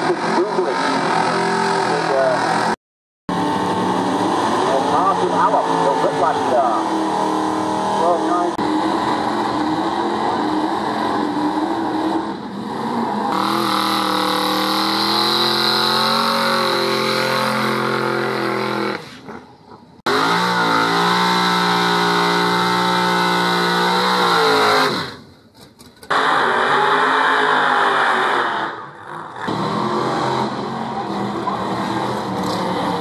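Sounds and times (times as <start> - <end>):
drag car engines at high revs: 0.0 - 33.0.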